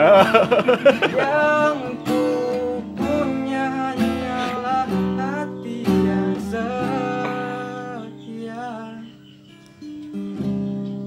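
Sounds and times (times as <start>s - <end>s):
person singing: 0.0s - 9.3s
acoustic guitar strumming: 0.0s - 11.0s.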